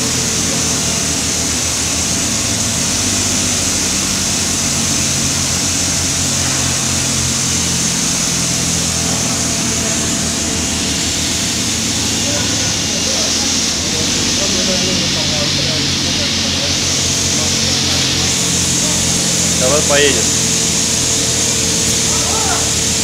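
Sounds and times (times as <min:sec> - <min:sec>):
constant high hiss: 0:00.0 - 0:23.0
low machinery hum: 0:00.0 - 0:23.0.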